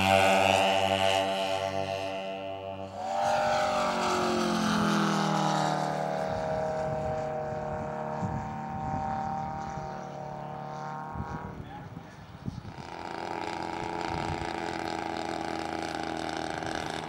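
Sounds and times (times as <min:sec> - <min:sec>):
model airplane engine drone: 0:00.0 - 0:17.0.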